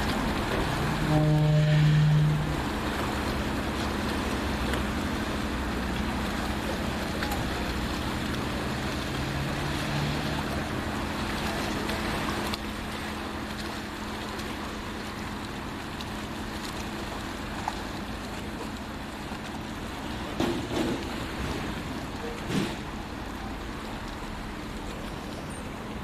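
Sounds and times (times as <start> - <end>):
boat engine running: 0.0 - 26.0
water noise: 0.0 - 26.0
wind: 0.0 - 26.0.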